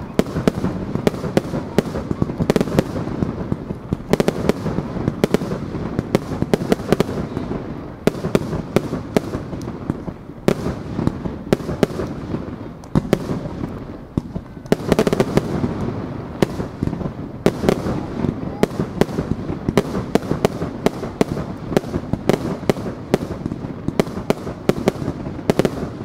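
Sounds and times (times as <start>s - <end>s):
fireworks bangs and pops: 0.0s - 26.0s.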